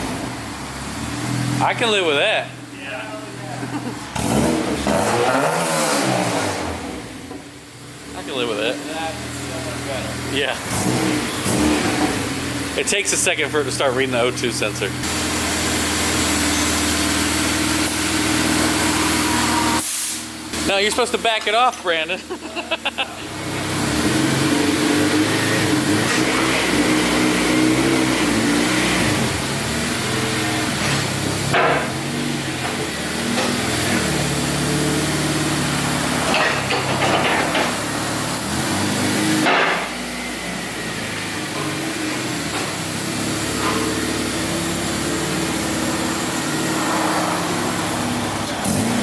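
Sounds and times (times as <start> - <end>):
car engine revving: 0.0 - 21.2, 21.9 - 49.0.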